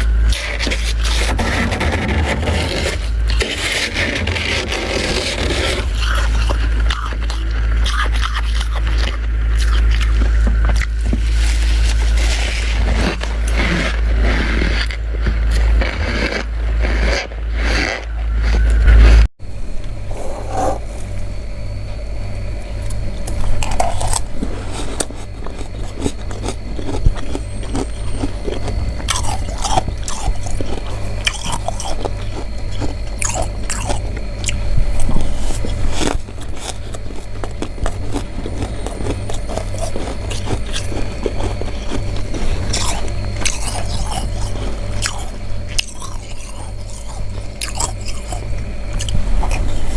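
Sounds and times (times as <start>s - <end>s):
loud low scraping: 0.0s - 7.8s, 10.6s - 49.9s
frost being chewed: 0.0s - 18.7s, 22.8s - 49.9s.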